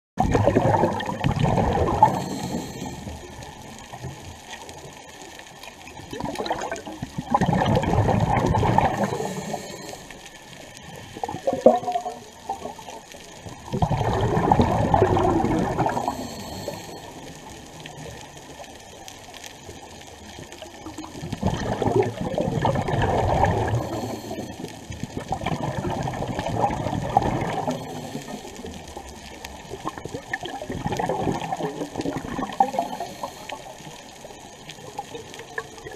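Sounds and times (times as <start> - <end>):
underwater regulator bubbles: 0.2 - 5.0, 5.9 - 10.2, 10.8 - 18.3, 20.5 - 35.9.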